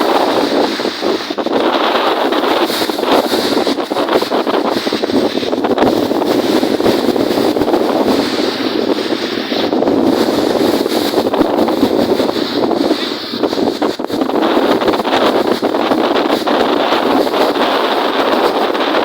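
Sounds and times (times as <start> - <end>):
lake waves: 0.0 - 19.0
strong wind on microphone: 0.0 - 19.0.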